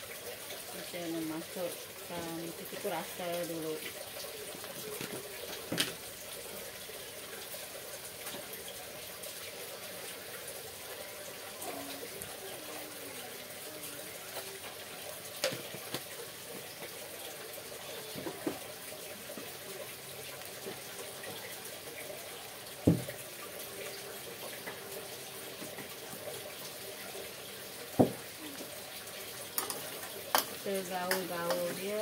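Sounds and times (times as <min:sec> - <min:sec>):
food frying in a wok: 0:00.0 - 0:32.0.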